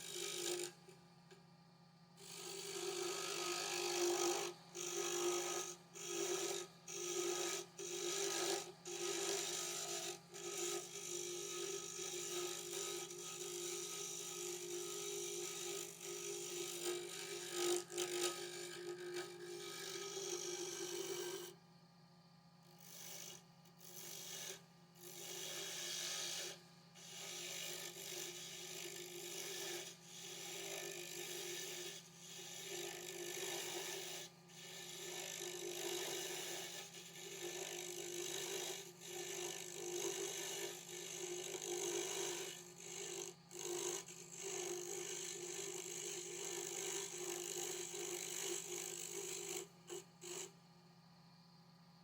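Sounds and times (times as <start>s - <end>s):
lathe hum: 0.0s - 0.8s, 2.2s - 21.5s, 22.8s - 50.5s
tool scraping wood on lathe: 0.0s - 0.8s, 2.2s - 21.6s, 22.8s - 50.6s.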